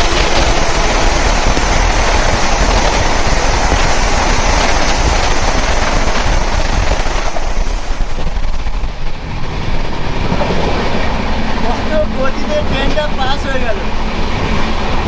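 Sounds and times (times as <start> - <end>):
rapid train wheel clatter: 0.0 - 15.0
rush of wind: 0.0 - 15.0.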